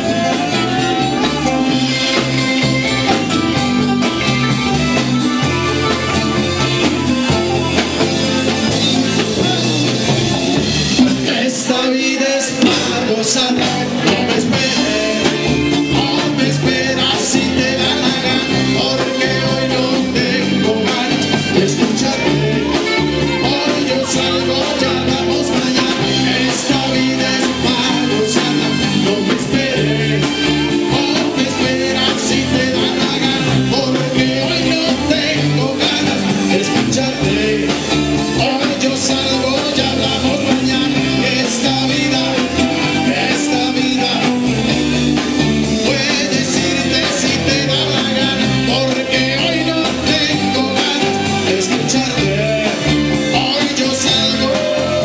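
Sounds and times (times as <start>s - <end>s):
lead singer singing: 0.0s - 55.0s
live latin dance band: 0.0s - 55.0s.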